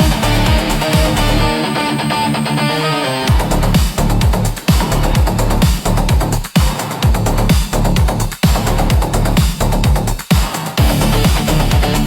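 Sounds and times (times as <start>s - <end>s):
steady kick drum beat: 0.0s - 1.6s, 3.2s - 12.0s
electronic background music: 0.0s - 12.0s.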